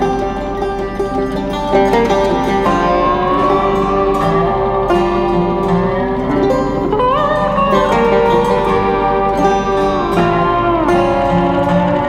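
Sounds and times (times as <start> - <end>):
plucked-string tune: 0.0 - 12.0.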